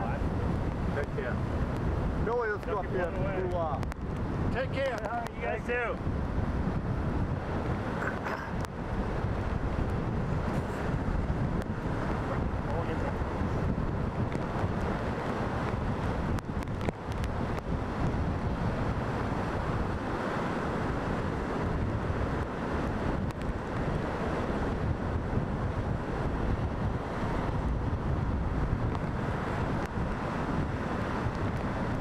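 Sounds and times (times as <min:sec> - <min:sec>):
heavy surf crashing around pilings: 0:00.0 - 0:32.0
wind buffeting microphone: 0:00.0 - 0:32.0.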